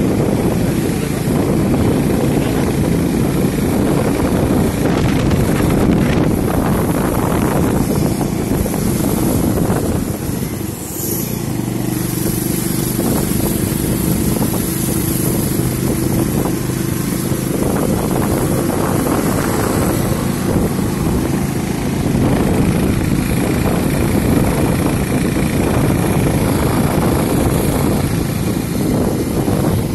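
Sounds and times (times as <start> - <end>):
motorcycle engine running: 0.0 - 29.9
wind and road noise on microphone: 0.0 - 29.9.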